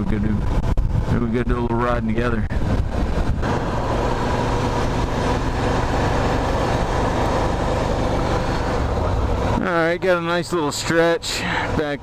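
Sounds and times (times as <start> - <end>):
motorcycle engine cruising: 0.0 - 10.3
wind and road noise: 0.0 - 12.0.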